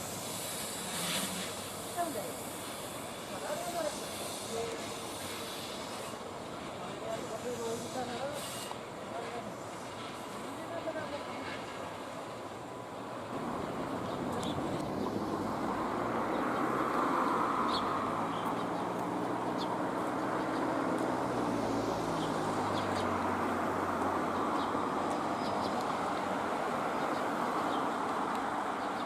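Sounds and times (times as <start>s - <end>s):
train rumbling: 0.0s - 28.6s.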